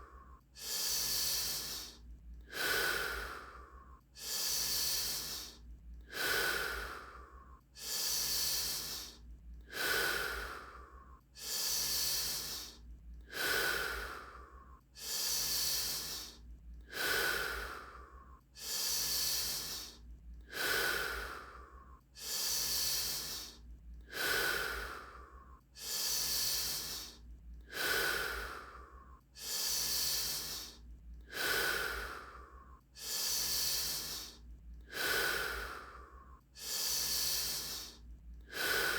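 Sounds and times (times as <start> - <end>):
deep rapid breathing: 0.0 - 38.9.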